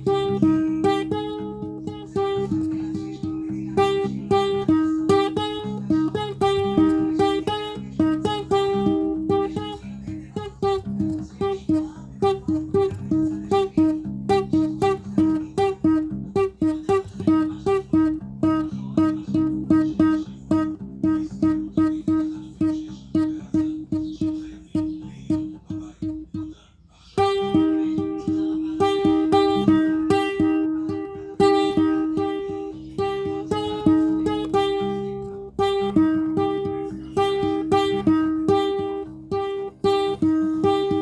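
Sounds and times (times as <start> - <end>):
acoustic guitar piece: 0.0 - 41.0.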